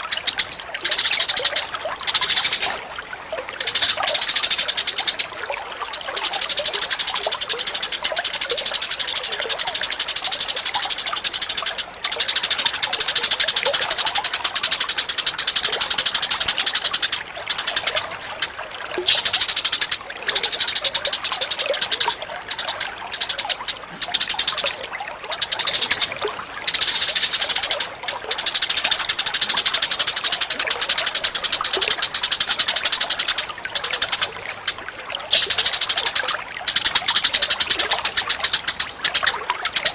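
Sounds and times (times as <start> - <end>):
songbird chattering trill: 0.0 - 2.8, 3.6 - 34.4, 35.3 - 39.9.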